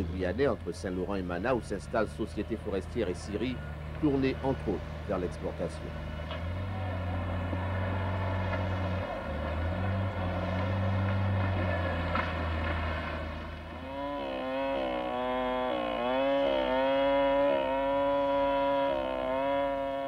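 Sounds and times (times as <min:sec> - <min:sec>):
low engine drone: 0:00.0 - 0:20.0
chainsaw cutting tree trunk: 0:03.3 - 0:20.0.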